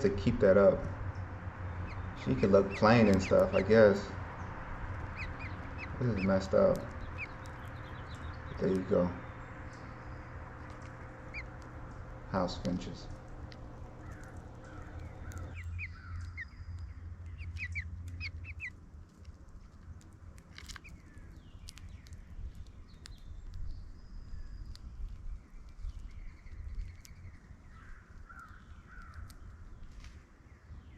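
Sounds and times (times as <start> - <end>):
low rumble: 0.0 - 27.0
birds chirping: 0.0 - 30.9.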